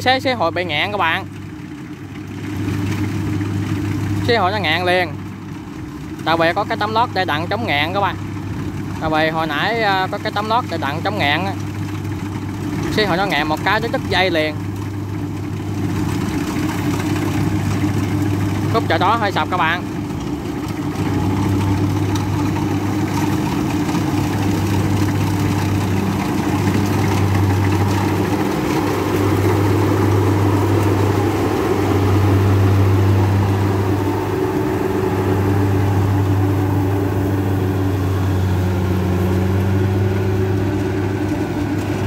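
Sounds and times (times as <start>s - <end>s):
combine harvester diesel engine drone: 0.0s - 42.0s.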